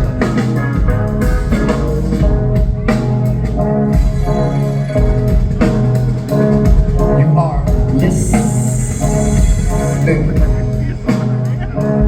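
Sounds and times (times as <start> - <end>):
drums and bass beat: 0.0 - 12.0
rock band playing live: 0.0 - 12.0.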